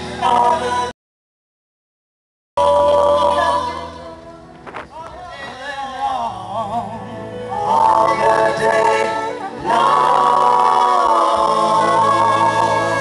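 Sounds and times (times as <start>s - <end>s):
vocal group singing in harmony: 0.0s - 0.9s, 2.6s - 13.0s.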